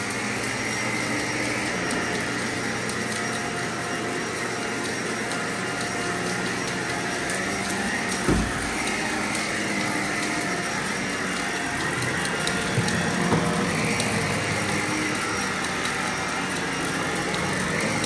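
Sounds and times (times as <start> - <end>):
vacuum cleaner running over rug: 0.0 - 18.0.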